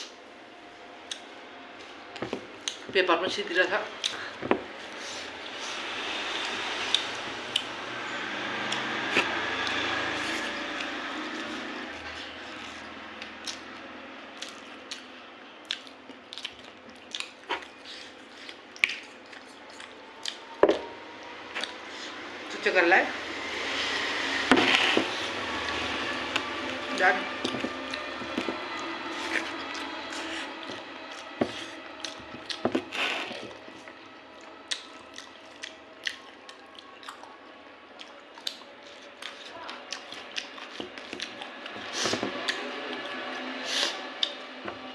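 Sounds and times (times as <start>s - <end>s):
wet chewing and mouth clicks: 1.0s - 3.0s, 3.9s - 7.7s, 8.5s - 20.8s, 21.5s - 22.0s, 24.6s - 44.5s.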